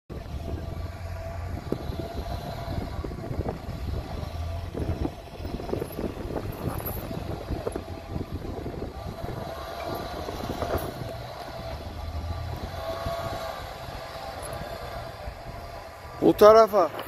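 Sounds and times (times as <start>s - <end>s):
engine running under load: 0.1s - 17.0s.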